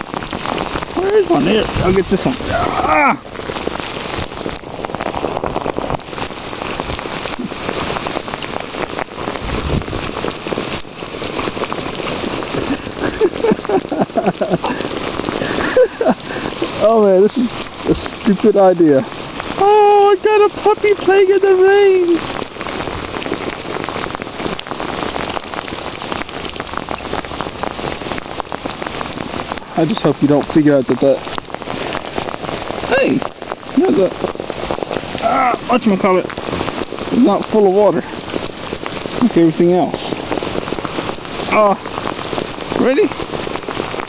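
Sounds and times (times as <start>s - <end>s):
close raindrop hits: 0.0s - 44.0s
rain falling: 0.0s - 44.0s.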